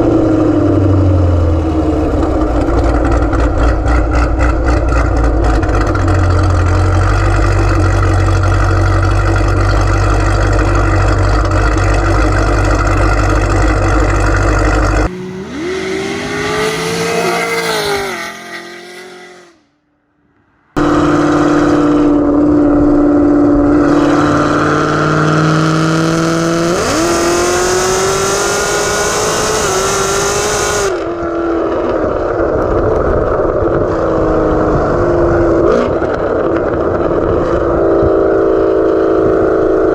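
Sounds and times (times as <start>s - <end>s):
car engine revving loud: 0.0s - 19.8s, 20.8s - 39.9s.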